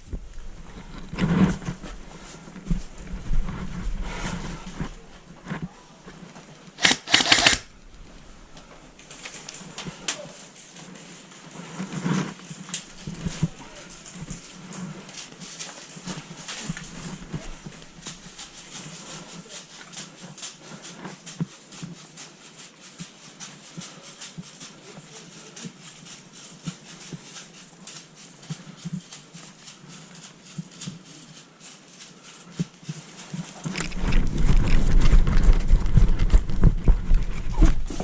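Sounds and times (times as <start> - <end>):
footsteps crunching on woodland ground: 0.0 - 38.0.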